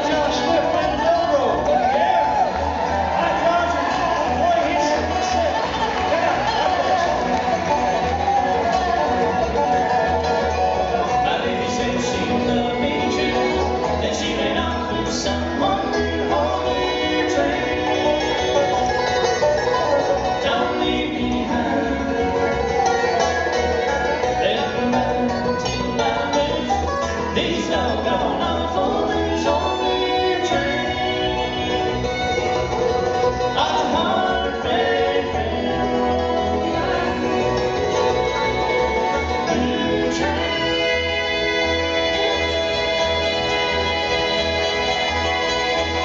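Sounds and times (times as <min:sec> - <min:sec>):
acoustic guitar: 0:00.0 - 0:46.0
banjo: 0:00.0 - 0:46.0
dobro: 0:00.0 - 0:46.0
fiddle: 0:00.0 - 0:46.0
mandolin: 0:00.0 - 0:46.0.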